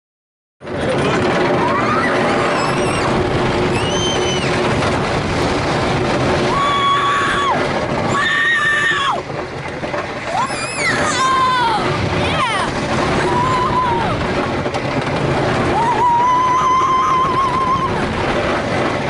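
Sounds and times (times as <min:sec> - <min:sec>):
roller coaster running on track: 0:00.6 - 0:19.0
wind rushing over microphone: 0:00.6 - 0:19.0.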